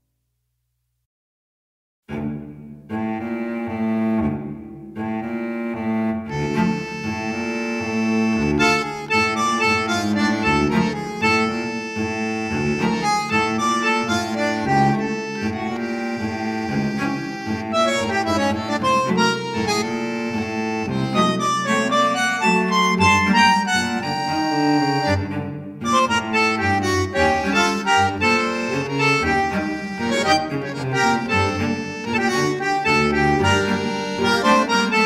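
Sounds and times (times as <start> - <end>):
background music melody: 2.1 - 35.0.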